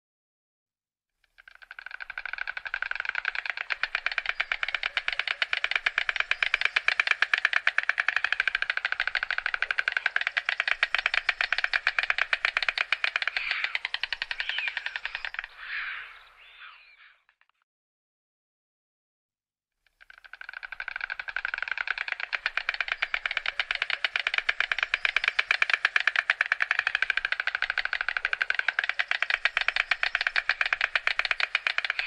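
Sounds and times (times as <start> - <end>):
stork bill clattering: 1.2 - 15.7, 20.0 - 32.0.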